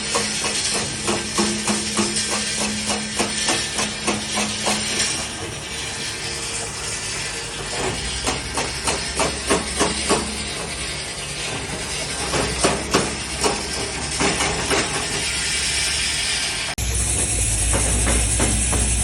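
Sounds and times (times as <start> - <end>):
stone-cutting saw humming: 0.0 - 19.0.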